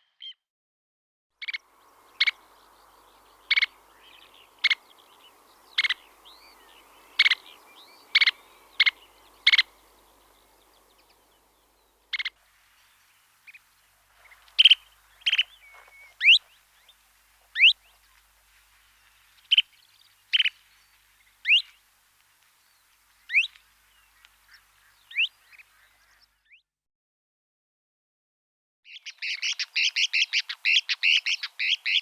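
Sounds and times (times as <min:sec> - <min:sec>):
birds calling: 0:01.4 - 0:26.4, 0:29.0 - 0:32.0.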